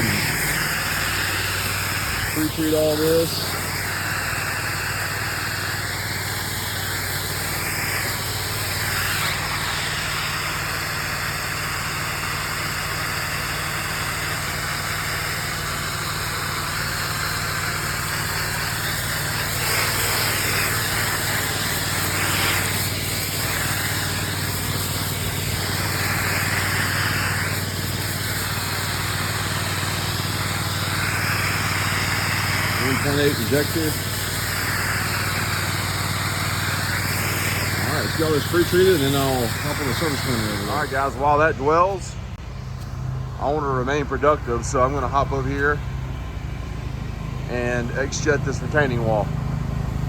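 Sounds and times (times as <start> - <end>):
spray hiss: 0.0 - 42.1
pressure washer engine running: 0.0 - 50.0.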